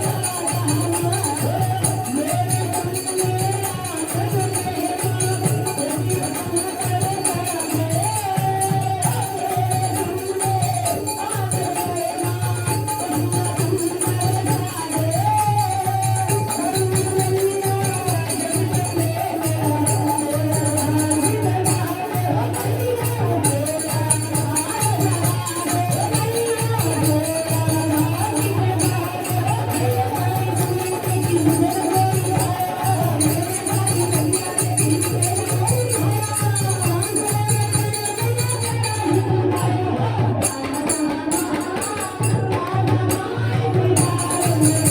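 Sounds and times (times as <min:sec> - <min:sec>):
hand drum beat: 0:00.0 - 0:44.9
jingling tambourine: 0:00.0 - 0:44.9
voices singing devotional song: 0:00.0 - 0:44.9.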